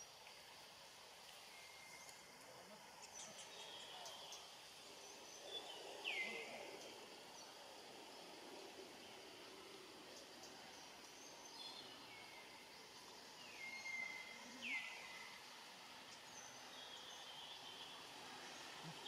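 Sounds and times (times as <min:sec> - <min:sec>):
faint steady background hiss: 0:00.0 - 0:19.0.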